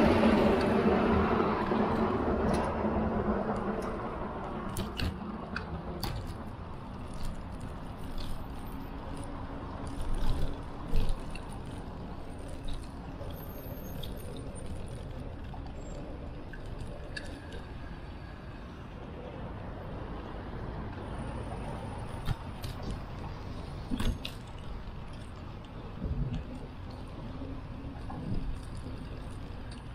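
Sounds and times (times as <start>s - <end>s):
wind and road noise: 0.0s - 29.9s.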